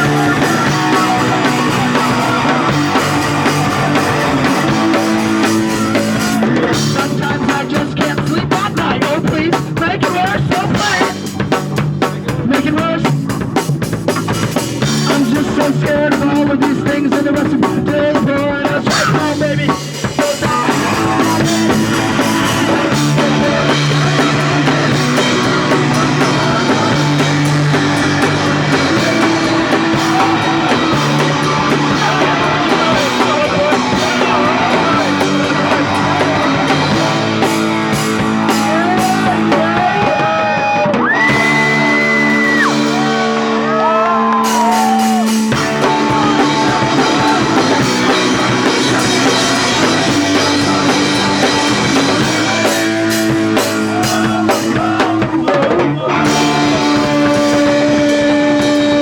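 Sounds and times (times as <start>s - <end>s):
person singing: 0.0s - 13.4s, 14.6s - 59.0s
bass guitar: 0.0s - 59.0s
distorted electric guitar: 0.0s - 59.0s
drum kit: 0.0s - 59.0s.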